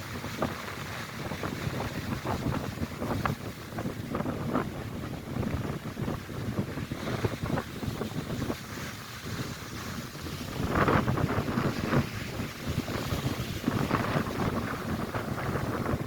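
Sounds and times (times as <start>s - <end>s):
lake waves crashing: 0.0s - 16.0s
wind buffeting microphone: 0.0s - 16.0s.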